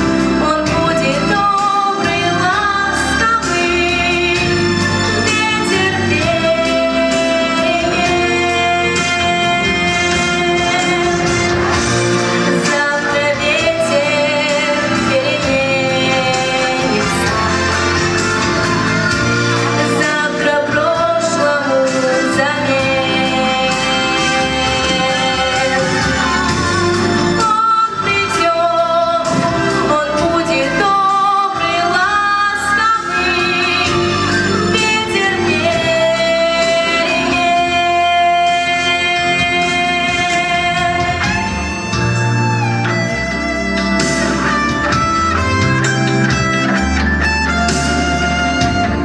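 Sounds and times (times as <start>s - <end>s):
instrumental backing track: 0.0s - 49.0s.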